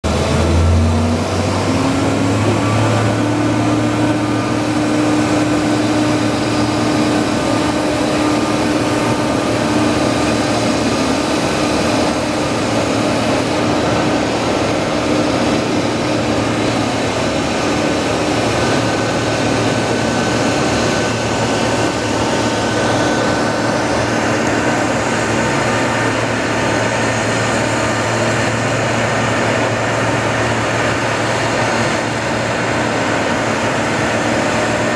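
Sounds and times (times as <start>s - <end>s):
aircraft rushing noise: 0.0s - 34.9s.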